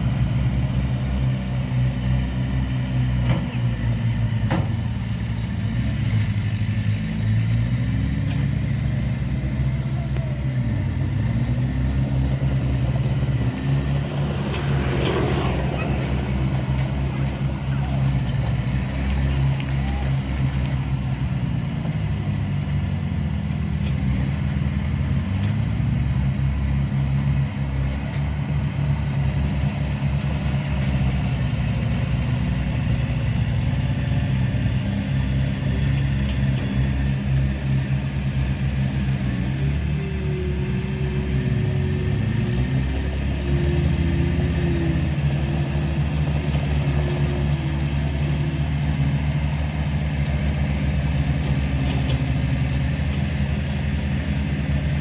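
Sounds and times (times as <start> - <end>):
heavy machinery diesel engine: 0.0 - 55.0.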